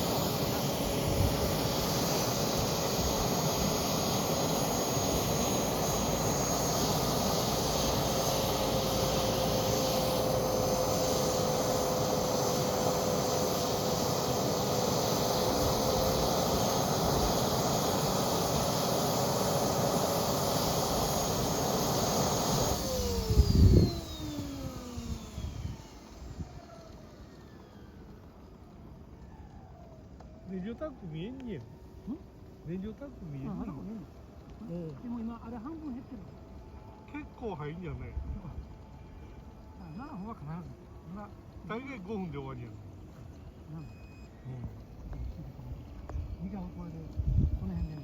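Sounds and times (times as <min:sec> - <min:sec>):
jet turbine whining: 0:00.0 - 0:48.0.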